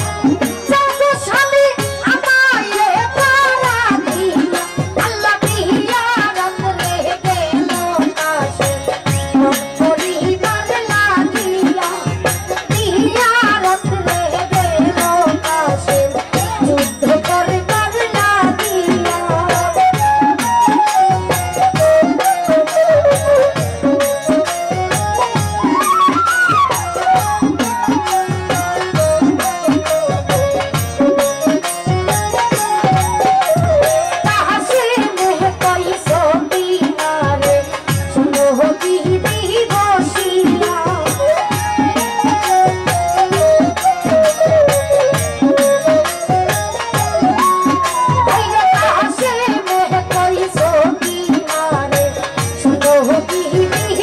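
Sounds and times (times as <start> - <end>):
folk band playing: 0.0 - 54.0
hand drum beat: 0.0 - 54.0
small percussion: 0.0 - 54.0
woman singing into a microphone: 0.0 - 54.0.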